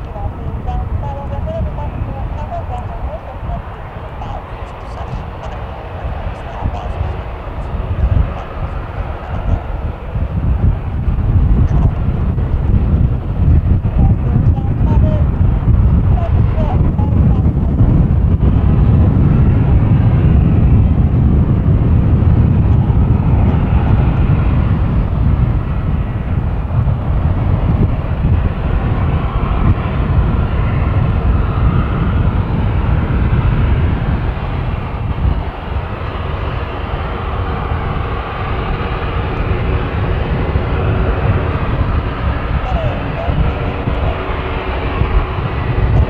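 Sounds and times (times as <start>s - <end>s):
turboprop engines running: 0.0s - 46.0s.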